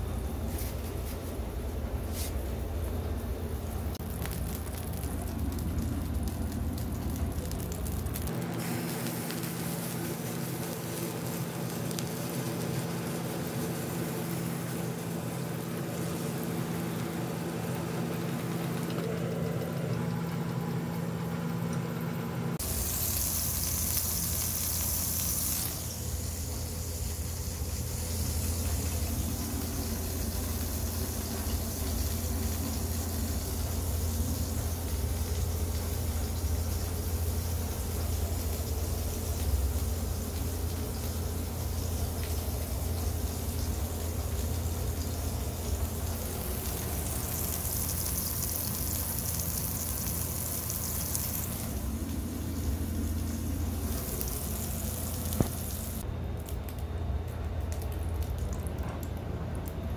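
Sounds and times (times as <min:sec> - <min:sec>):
patty sizzling in hot oil: 0:03.6 - 0:19.3, 0:22.6 - 0:56.0.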